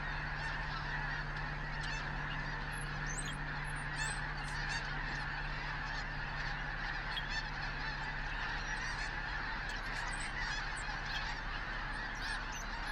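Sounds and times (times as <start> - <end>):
geese calling: 0.0 - 12.9
steady low hum: 0.0 - 12.9.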